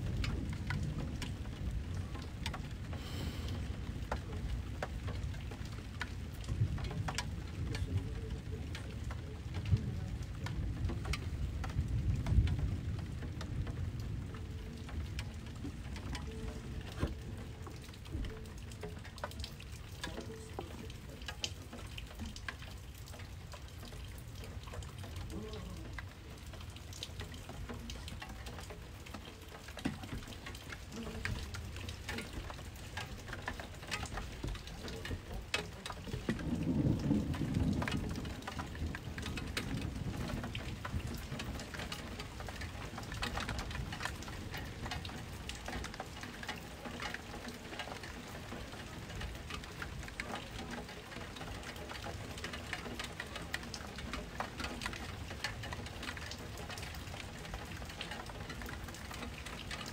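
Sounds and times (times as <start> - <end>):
low rumble of thunder: 0.0 - 59.9
rain falling steadily: 0.0 - 59.9.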